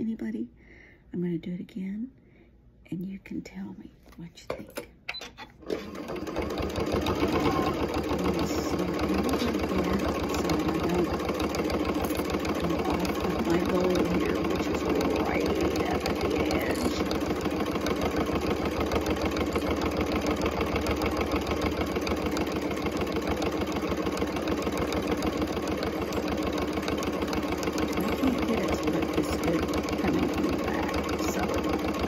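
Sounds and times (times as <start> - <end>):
sewing machine stitching: 5.1 - 32.0.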